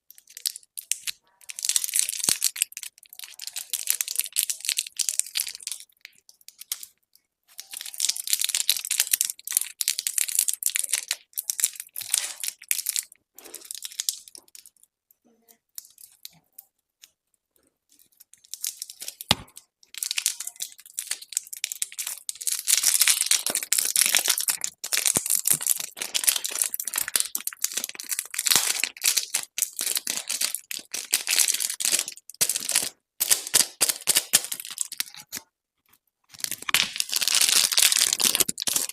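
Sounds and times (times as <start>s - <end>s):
candy wrappers crinkling: 0.1s - 15.0s, 15.6s - 35.5s, 36.3s - 38.9s.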